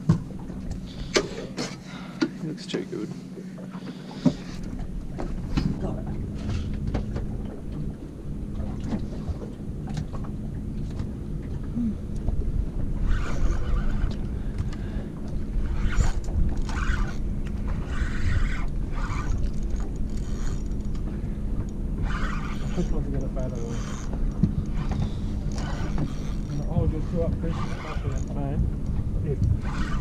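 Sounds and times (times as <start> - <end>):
faint steady hum: 0.0 - 30.0
water slapping against hull: 0.0 - 30.0
wind rumbling on microphone: 4.6 - 30.0.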